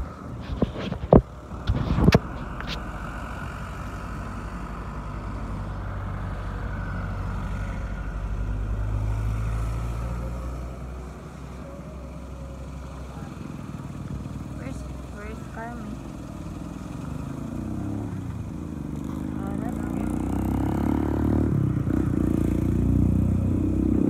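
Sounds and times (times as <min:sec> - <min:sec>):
engine running with low hum: 0:00.0 - 0:24.0.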